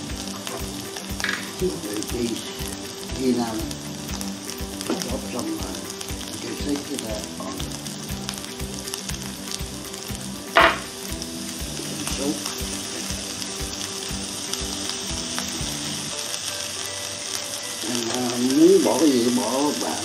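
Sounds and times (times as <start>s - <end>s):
potatoes sizzling in a pan: 0.0s - 20.0s.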